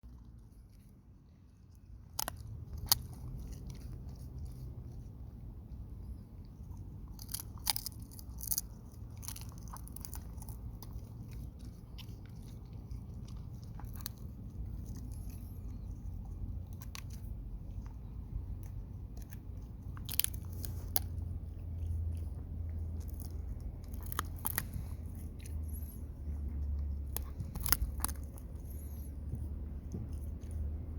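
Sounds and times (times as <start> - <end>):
dog chewing wood: 0.0 - 30.9
low steady rumble: 0.0 - 30.9.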